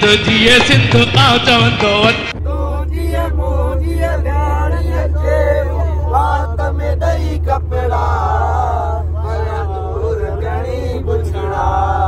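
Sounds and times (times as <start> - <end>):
road noise: 0.0 - 12.0
van engine hum: 0.0 - 12.0
young men singing and chanting: 0.0 - 12.0.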